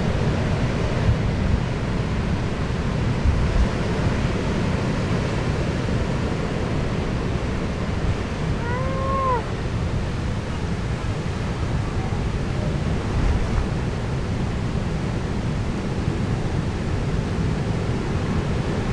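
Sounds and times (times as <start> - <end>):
sea rumbling: 0.0 - 18.9
wind: 0.0 - 18.9.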